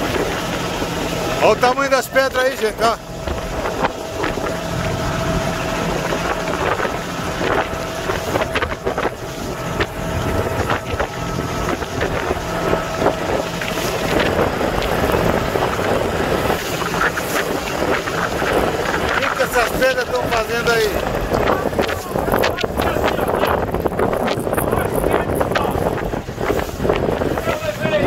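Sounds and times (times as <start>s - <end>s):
motorboat engine running: 0.0s - 28.0s
wind buffeting microphone: 0.0s - 28.0s.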